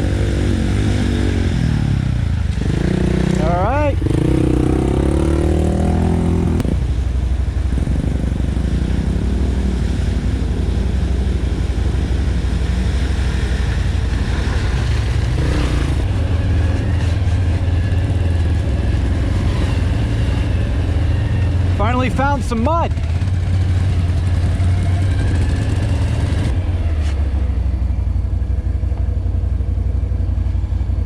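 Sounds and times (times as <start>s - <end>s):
atv engine droning: 0.0s - 31.0s.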